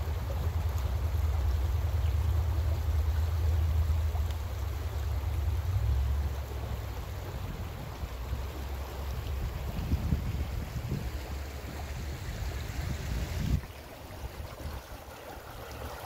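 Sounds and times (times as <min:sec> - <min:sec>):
low uneven rumble: 0:00.0 - 0:16.0
stream rippling over stones: 0:00.0 - 0:16.0.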